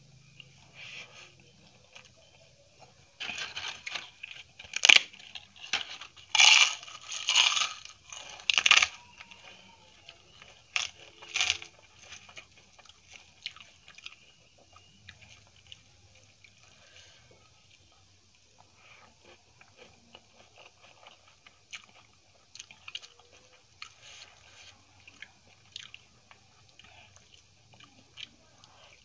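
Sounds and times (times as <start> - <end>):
crunching and chewing papad: 0.1 - 29.0.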